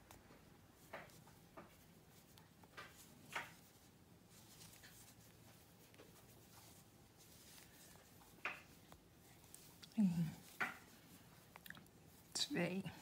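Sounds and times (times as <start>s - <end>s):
yarn rustling: 0.0s - 13.0s.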